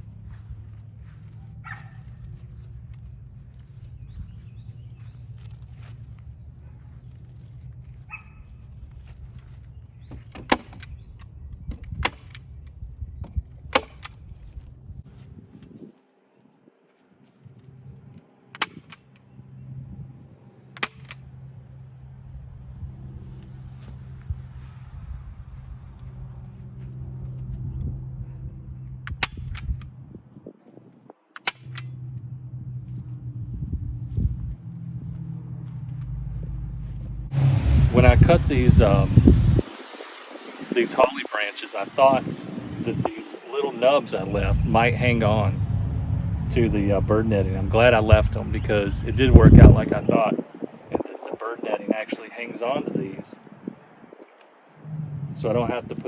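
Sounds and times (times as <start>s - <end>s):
steady low rumble: 0.0s - 15.8s, 17.4s - 30.5s, 31.4s - 52.2s, 54.7s - 56.0s.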